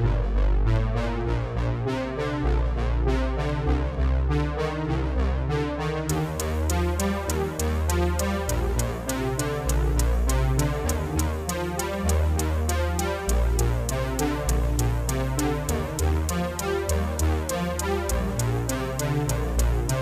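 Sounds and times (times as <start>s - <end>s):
deep bass line: 0.0s - 20.0s
electronic music with synthesizer: 0.0s - 20.0s.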